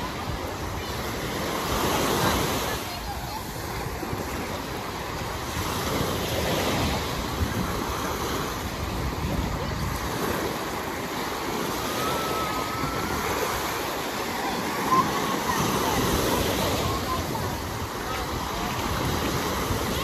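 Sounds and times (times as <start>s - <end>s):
small waves breaking on shore: 0.0s - 20.0s
wind buffeting microphone: 0.0s - 20.0s.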